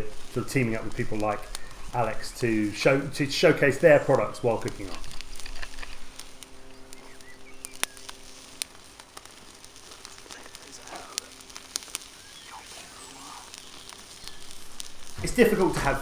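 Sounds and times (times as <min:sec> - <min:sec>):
grill fire popping and crackling: 0:00.0 - 0:16.0
soft hiss: 0:00.0 - 0:16.0.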